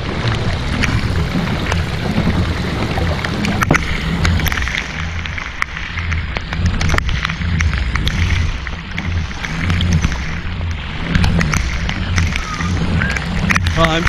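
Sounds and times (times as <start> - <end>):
rain drops hitting a kayak: 0.0 - 14.0
wind buffeting microphone: 0.0 - 14.0.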